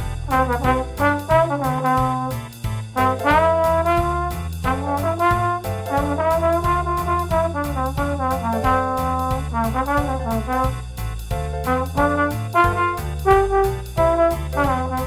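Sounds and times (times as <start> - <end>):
bass line: 0.0 - 15.0
drum strokes: 0.0 - 15.0
trombone jazz solo: 0.0 - 15.0.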